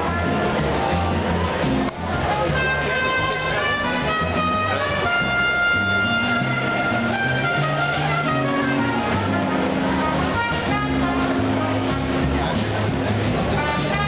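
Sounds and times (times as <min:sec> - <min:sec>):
brass band music: 0:00.0 - 0:14.0.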